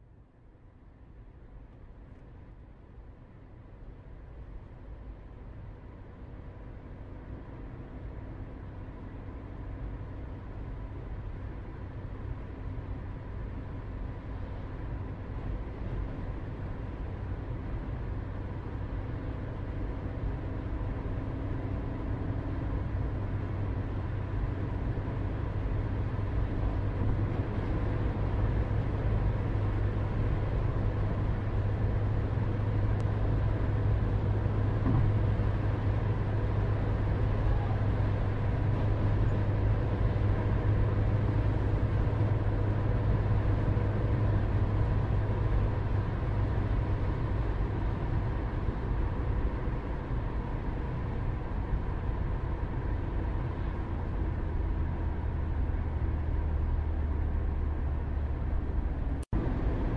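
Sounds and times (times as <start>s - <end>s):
low mechanical rumble: 0.0s - 59.9s.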